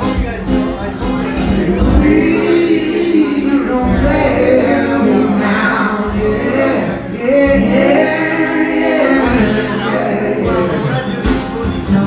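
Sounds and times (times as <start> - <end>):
acoustic guitar: 0.0 - 12.0
man singing long notes: 1.4 - 11.2.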